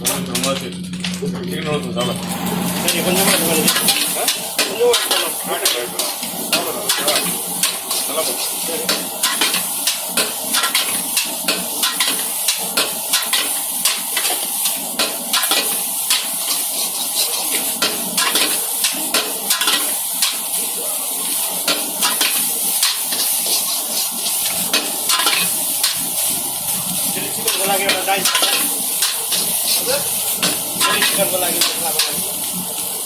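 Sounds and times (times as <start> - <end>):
food sizzling: 0.0 - 33.0.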